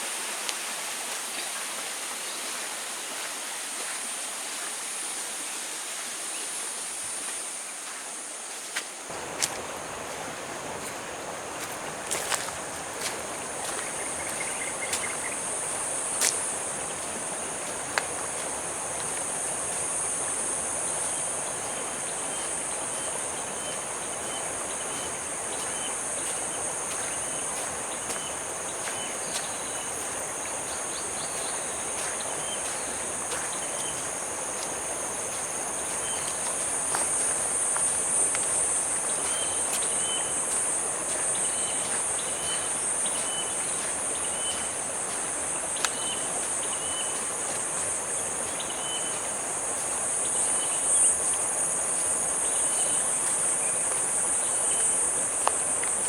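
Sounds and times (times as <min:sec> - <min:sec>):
insect chorus chirping: 0:06.4 - 0:56.0.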